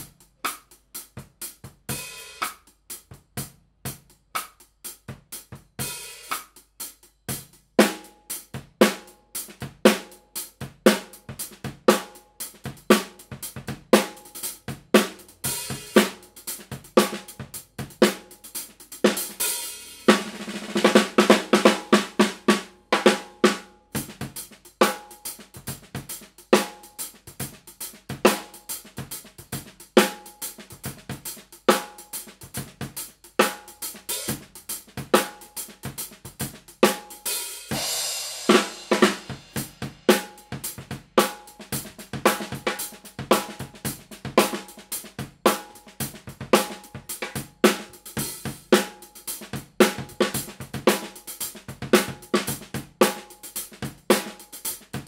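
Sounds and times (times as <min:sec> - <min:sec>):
snare drum played with sticks: 0:00.0 - 0:03.2, 0:03.9 - 0:55.0.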